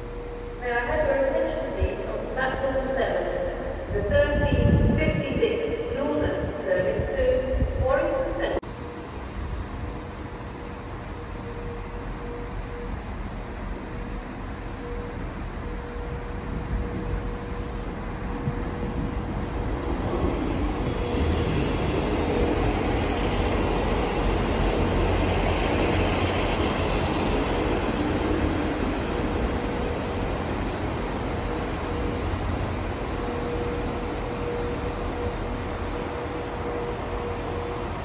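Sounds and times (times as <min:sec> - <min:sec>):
train passing: 0:00.0 - 0:38.0.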